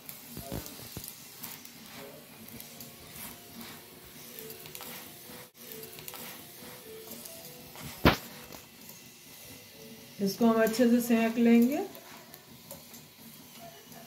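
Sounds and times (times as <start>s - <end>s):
flatbread sizzling on griddle: 0.0s - 14.0s.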